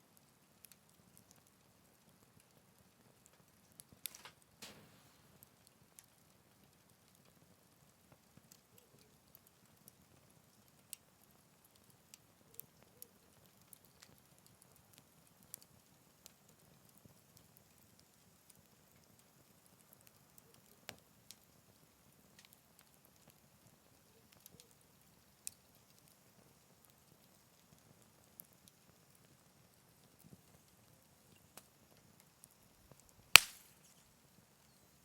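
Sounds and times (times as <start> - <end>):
fire hissing softly: 0.0 - 35.0
wood fire crackling: 0.0 - 35.0.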